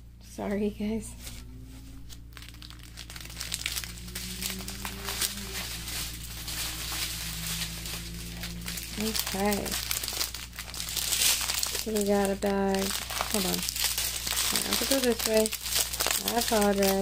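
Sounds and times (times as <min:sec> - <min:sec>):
plastic packaging crinkling: 0:02.0 - 0:17.0.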